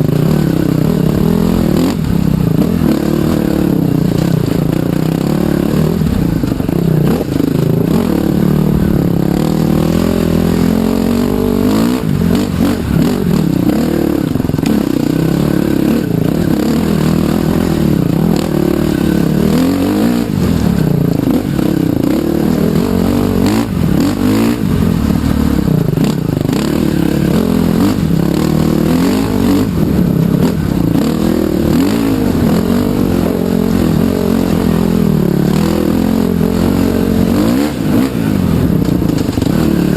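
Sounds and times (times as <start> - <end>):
trail bike engine revving: 0.0 - 39.9.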